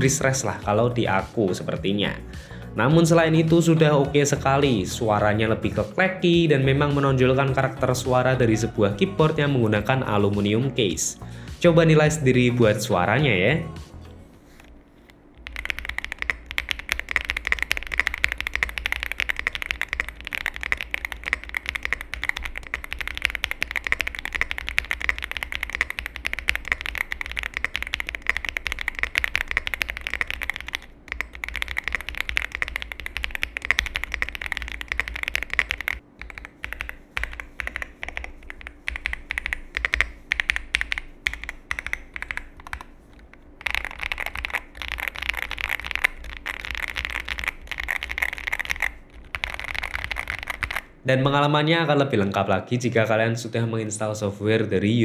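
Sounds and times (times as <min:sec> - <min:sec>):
mechanical keyboard typing: 0:00.0 - 0:13.4, 0:15.4 - 0:50.9.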